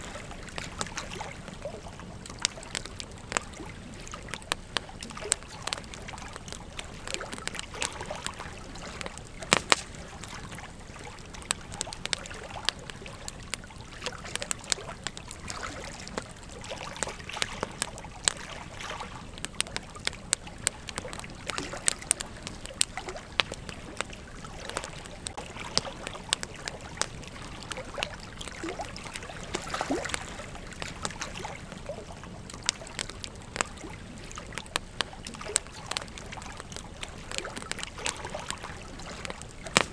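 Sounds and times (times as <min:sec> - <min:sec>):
campfire crackling and popping: 0:00.0 - 0:39.9
fire low hiss: 0:00.0 - 0:39.9.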